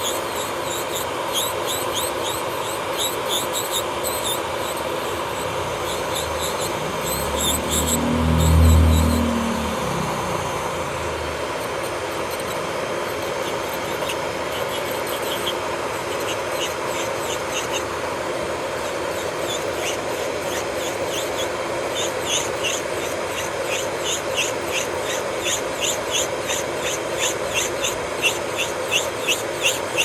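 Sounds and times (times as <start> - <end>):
drill bit scratching nail: 0.0 - 9.3, 11.0 - 30.0
electric nail drill running: 0.0 - 30.0.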